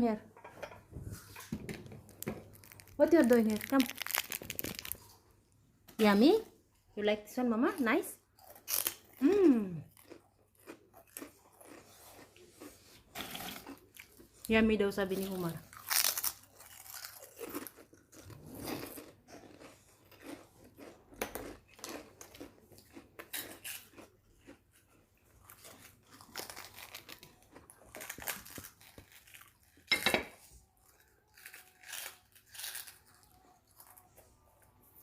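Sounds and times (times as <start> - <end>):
person chewing crunchy crackers: 2.0 - 5.3, 8.2 - 14.5, 15.6 - 29.9, 30.5 - 34.8.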